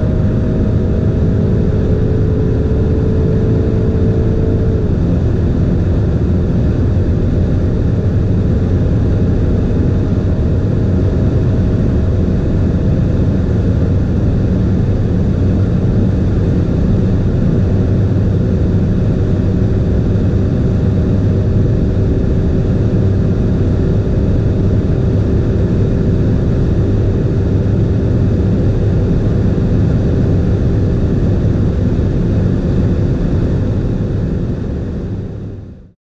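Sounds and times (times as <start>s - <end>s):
wind noise: 0.0s - 35.6s
car engine at full throttle: 0.0s - 35.9s.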